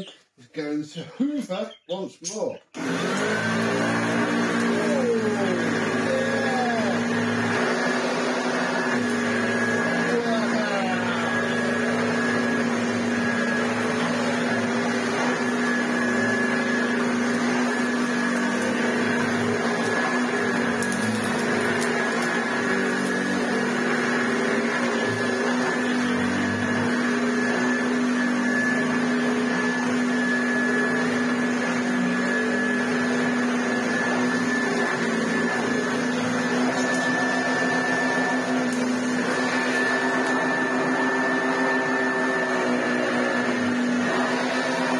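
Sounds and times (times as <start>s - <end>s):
vacuum cleaner running: 2.8s - 44.9s.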